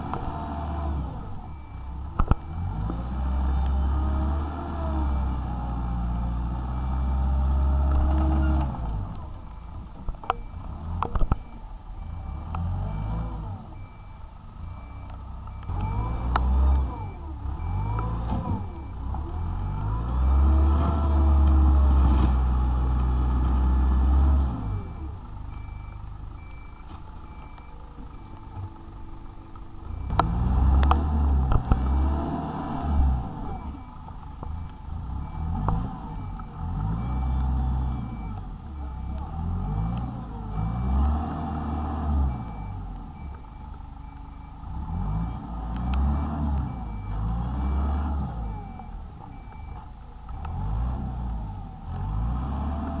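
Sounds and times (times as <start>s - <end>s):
excavator diesel engine revving: 0.0s - 53.0s
reversing alarm beeping: 0.1s - 8.8s, 9.4s - 22.0s, 24.0s - 50.9s.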